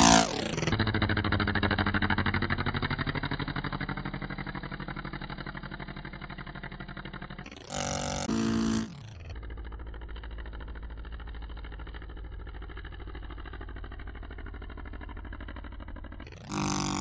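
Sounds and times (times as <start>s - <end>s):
two-stroke model plane engine: 0.0s - 17.0s.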